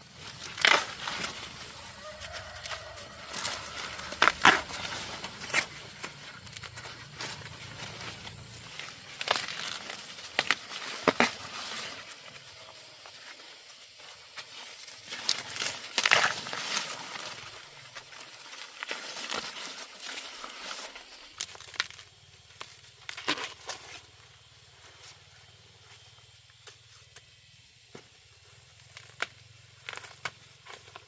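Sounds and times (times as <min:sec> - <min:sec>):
rustling and crackling: 0:00.0 - 0:26.2.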